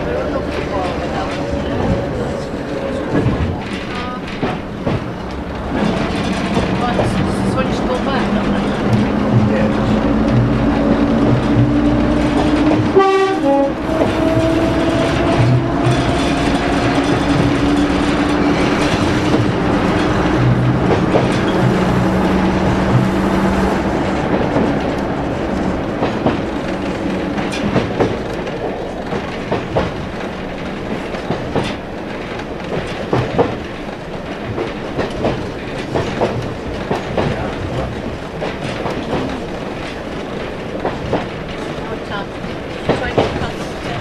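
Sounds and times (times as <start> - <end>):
diesel railcar engine: 0.0 - 44.0
wheels clicking over rail joints: 0.0 - 44.0.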